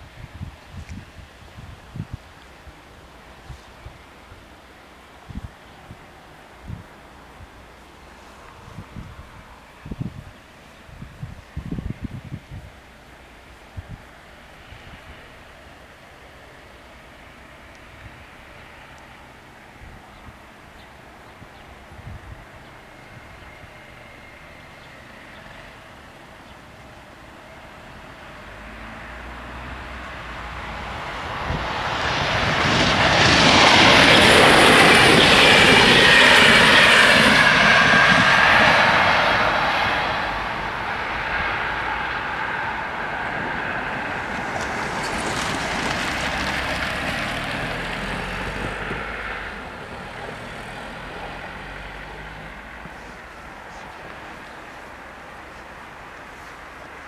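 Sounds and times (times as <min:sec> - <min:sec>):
passenger train passing: 0:00.0 - 0:57.0.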